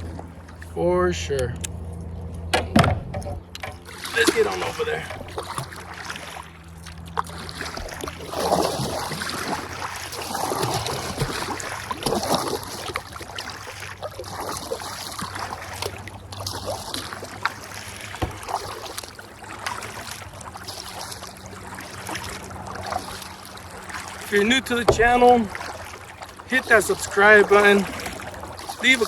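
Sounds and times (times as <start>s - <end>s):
kayak paddle strokes: 2.6s - 29.0s
water splashing: 3.2s - 29.0s.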